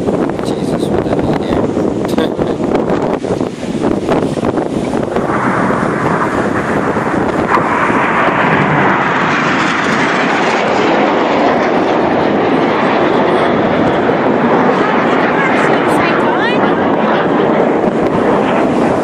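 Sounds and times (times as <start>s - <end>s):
jet engine roar overhead: 0.0s - 19.0s.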